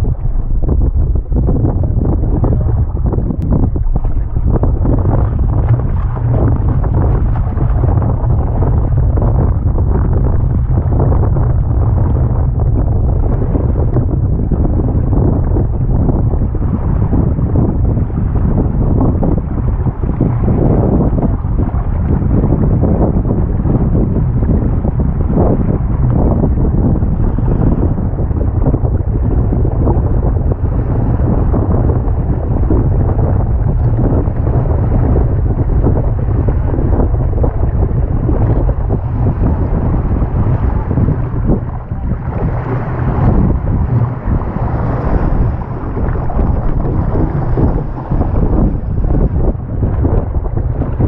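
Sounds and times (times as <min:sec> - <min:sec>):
gusty wind buffeting microphone: 0:00.0 - 0:51.0.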